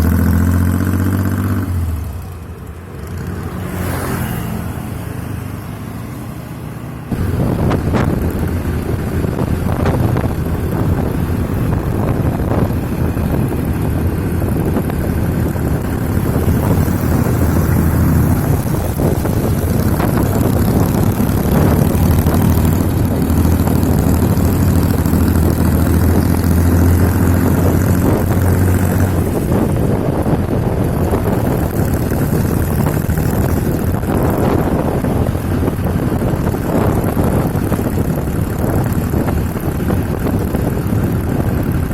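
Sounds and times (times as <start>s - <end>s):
motorcycle engine rumble: 0.0s - 41.9s.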